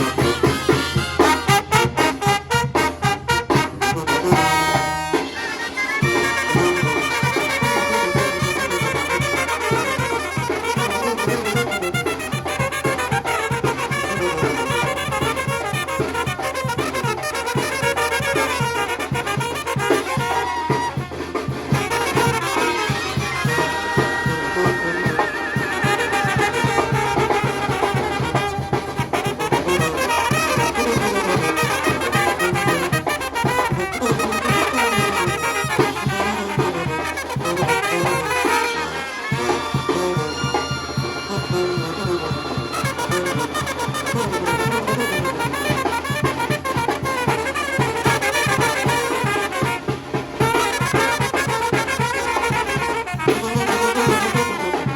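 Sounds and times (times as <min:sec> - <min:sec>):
brass band playing: 0:00.0 - 0:54.9
trombones and trumpets: 0:00.0 - 0:54.9.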